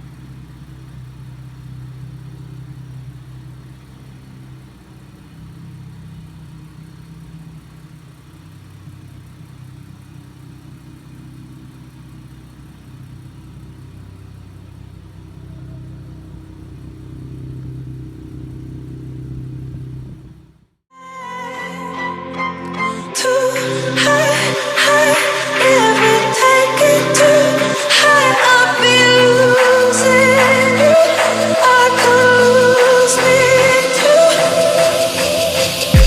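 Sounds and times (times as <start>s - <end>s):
car engine droning: 0.0s - 36.0s.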